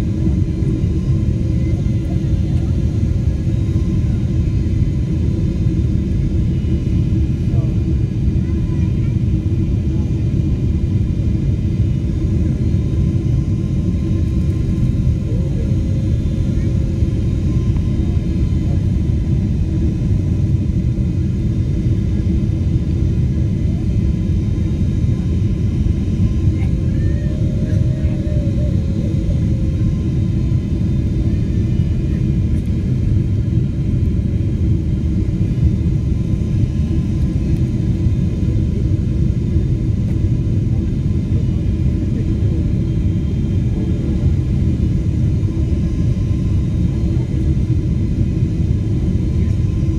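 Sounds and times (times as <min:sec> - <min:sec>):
airliner cabin engine rumble: 0:00.0 - 0:49.9.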